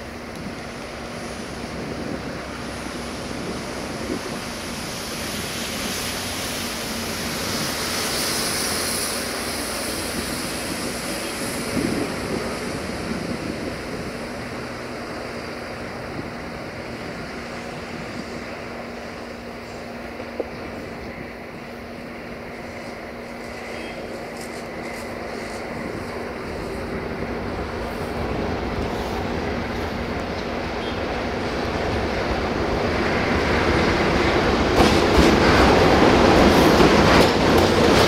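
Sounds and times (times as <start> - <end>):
diesel locomotive engine: 0.0 - 38.0
train wheel and rail noise: 0.0 - 38.0.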